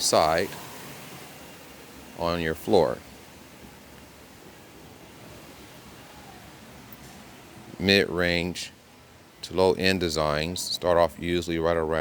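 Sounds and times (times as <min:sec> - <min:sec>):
faint room tone hiss: 0:00.0 - 0:12.0.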